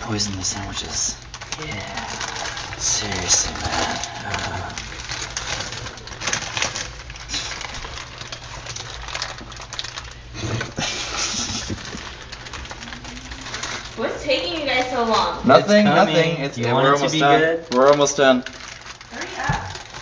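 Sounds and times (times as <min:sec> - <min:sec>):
paper crinkling: 0:00.0 - 0:20.0.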